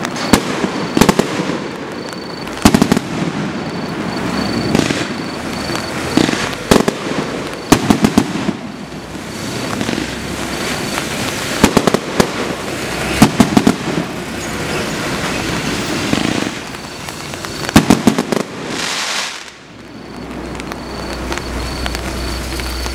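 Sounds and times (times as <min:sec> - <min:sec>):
firework cracks and pops: 0:00.0 - 0:22.9
firework hissing rush: 0:02.4 - 0:22.9.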